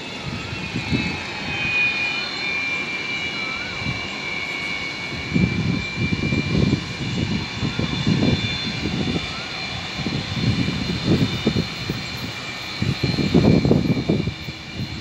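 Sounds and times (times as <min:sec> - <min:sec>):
high jet engine whine: 0:00.0 - 0:15.0.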